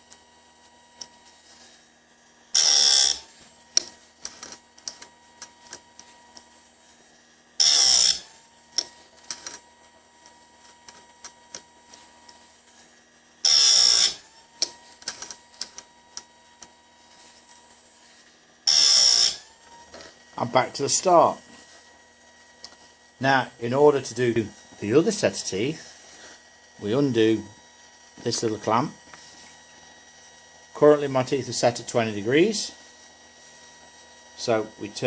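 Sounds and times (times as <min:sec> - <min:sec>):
grinding wheel whine: 0:00.0 - 0:35.0
grinding wheel grinding chain: 0:02.5 - 0:22.0, 0:22.6 - 0:35.0.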